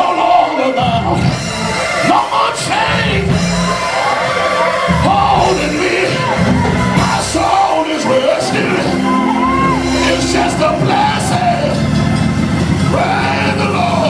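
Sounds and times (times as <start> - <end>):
loud church music: 0.0 - 14.0
people singing and shouting: 0.0 - 14.0.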